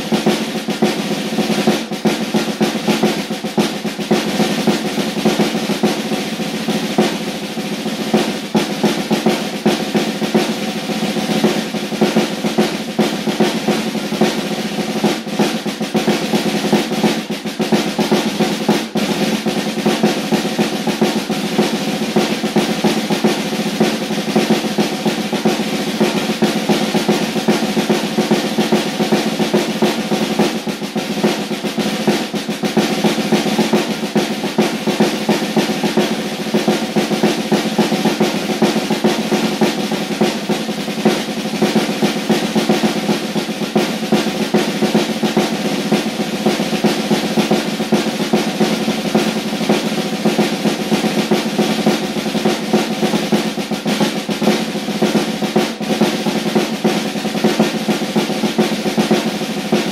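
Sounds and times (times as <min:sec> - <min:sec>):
snare drum rolls: 0:00.0 - 0:59.9.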